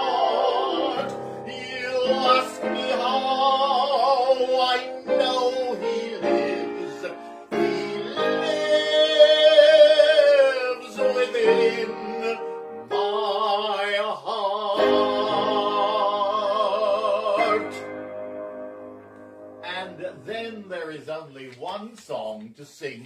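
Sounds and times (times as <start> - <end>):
person singing a hymn: 0.0 - 18.0, 19.6 - 20.6
upright piano accompaniment: 0.0 - 21.1.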